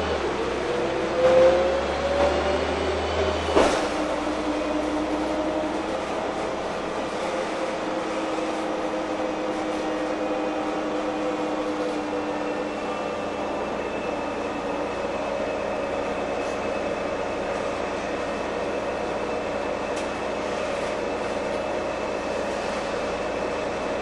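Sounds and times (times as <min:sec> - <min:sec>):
bus engine and road noise: 0:00.0 - 0:24.0
running whine: 0:00.0 - 0:24.0.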